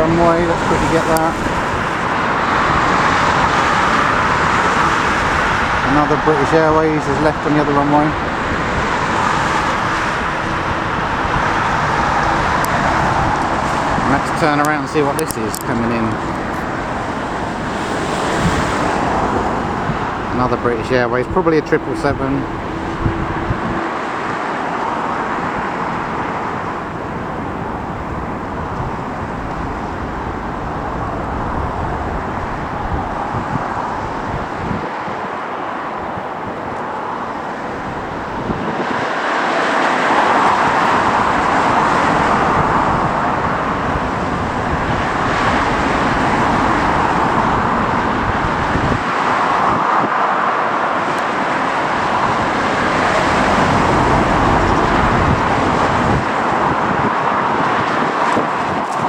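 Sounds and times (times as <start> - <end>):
jet airliner engine roar: 0.0 - 59.0.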